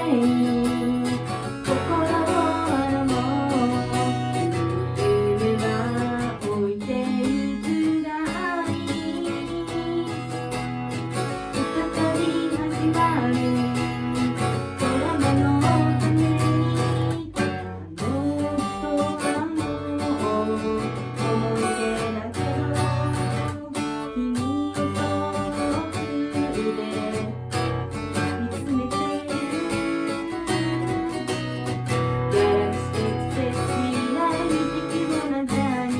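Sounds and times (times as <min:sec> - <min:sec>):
acoustic guitar strumming: 0:00.0 - 0:35.9.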